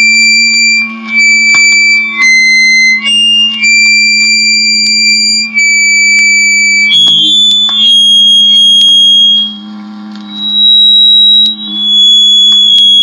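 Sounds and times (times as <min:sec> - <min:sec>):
high-pitched whistling tone: 0:00.0 - 0:09.7, 0:10.3 - 0:13.0.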